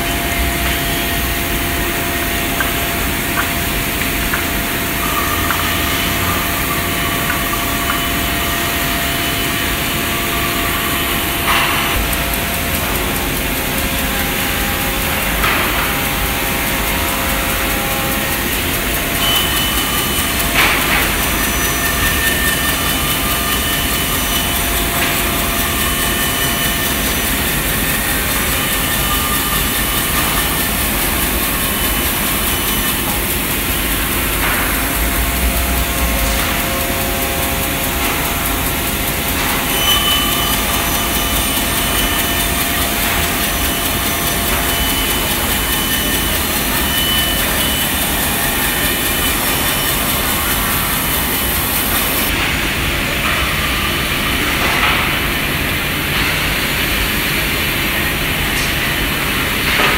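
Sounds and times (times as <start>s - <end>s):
machine drive running: 0.0s - 52.4s.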